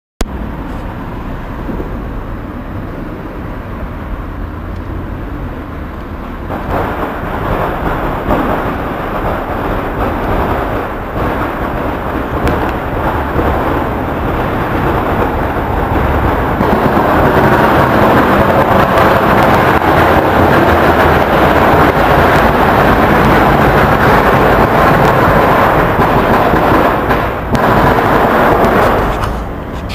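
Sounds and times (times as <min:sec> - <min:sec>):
distant fireworks and firecrackers: 0:00.2 - 0:29.9.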